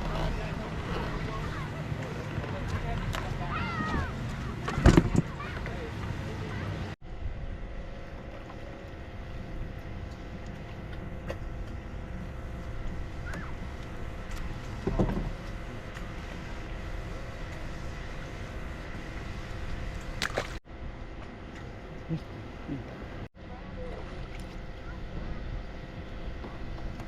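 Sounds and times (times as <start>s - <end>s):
boat motor humming: 0.0s - 27.0s
wind and water rumble: 0.0s - 27.0s.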